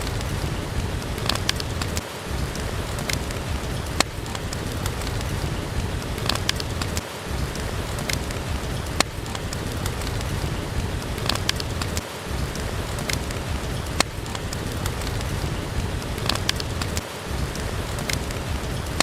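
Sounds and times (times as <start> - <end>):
steady rain: 0.0 - 19.0
wood fire popping: 0.0 - 19.0.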